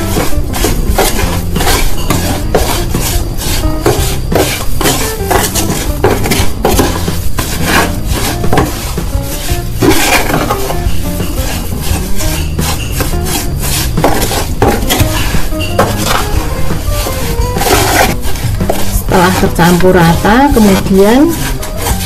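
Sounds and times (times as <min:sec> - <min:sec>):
spoon scraping gritty mix: 0:00.0 - 0:22.0.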